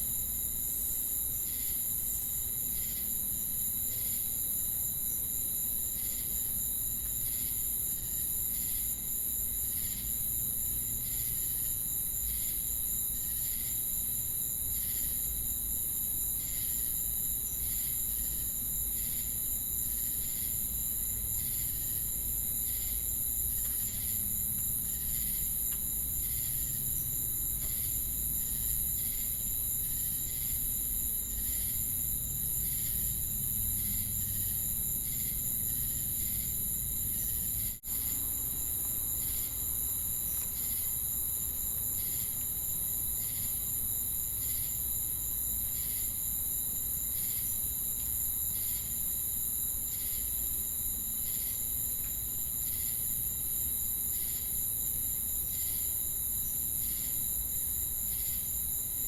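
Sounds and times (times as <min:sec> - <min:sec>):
cricket chirps: 0:00.0 - 0:59.0
insects droning: 0:00.0 - 0:59.0.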